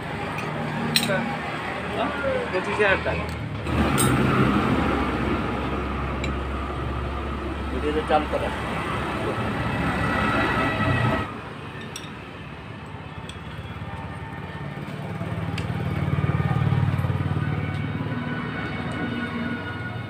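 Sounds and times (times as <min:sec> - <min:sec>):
engine rumble: 0:00.0 - 0:20.0.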